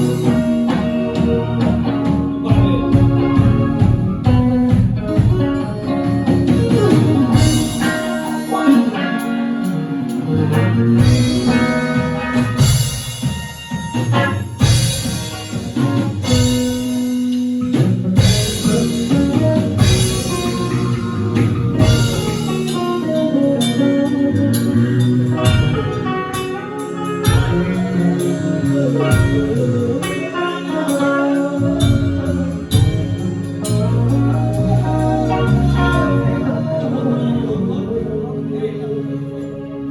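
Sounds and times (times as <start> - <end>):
drums striking: 0.0 - 9.3, 10.1 - 36.2
band playing live: 0.0 - 39.9
held guitar notes: 0.0 - 39.9.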